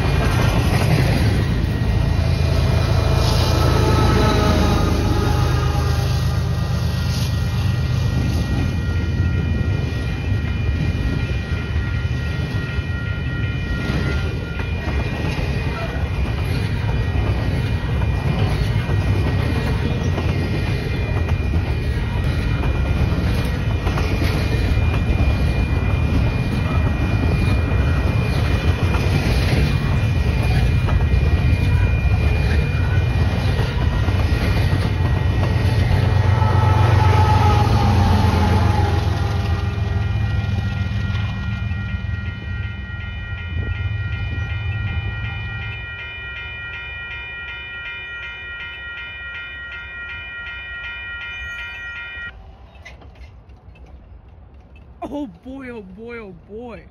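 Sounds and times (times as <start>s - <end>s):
thin steady squeal: 0.0s - 53.3s
diesel locomotive low rumble: 0.0s - 55.0s
freight train rumbling past: 0.0s - 56.9s.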